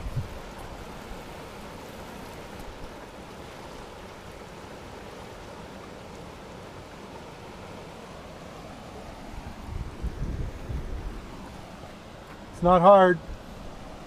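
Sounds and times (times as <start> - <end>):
river rapids rushing over rock: 0.0 - 14.0.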